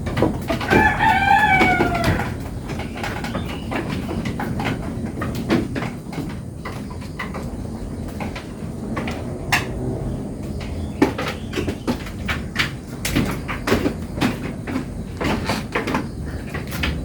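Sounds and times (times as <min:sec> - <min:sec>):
knocking and clattering: 0:00.0 - 0:17.0.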